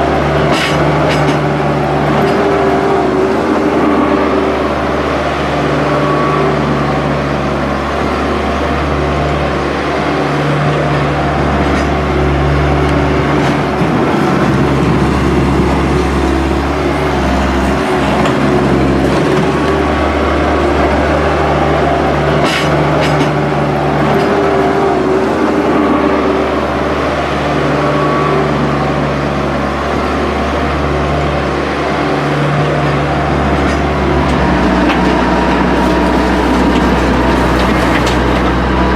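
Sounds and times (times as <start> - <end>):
construction machinery engine running: 0.0 - 38.9.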